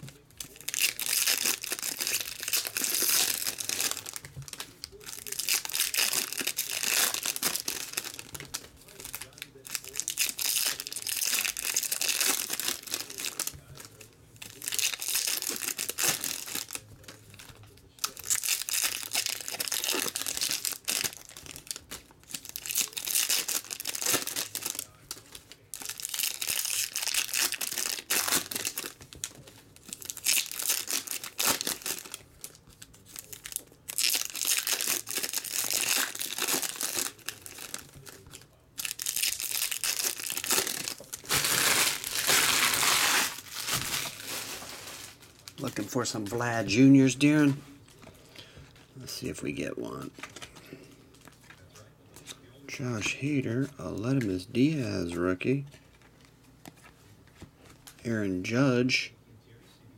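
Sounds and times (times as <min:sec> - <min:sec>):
card pack wrappers tearing and crinkling: 0:00.0 - 0:48.1, 0:49.1 - 0:51.6.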